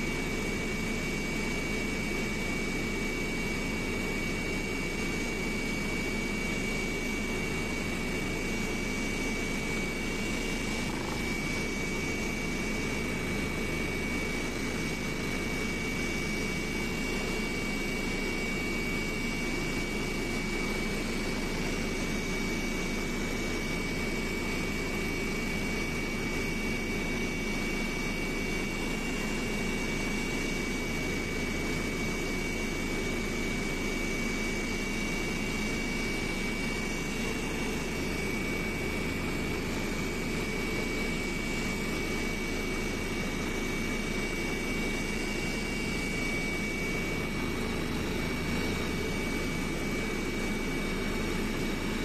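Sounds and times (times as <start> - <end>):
steady high whine: 0.0 - 52.0.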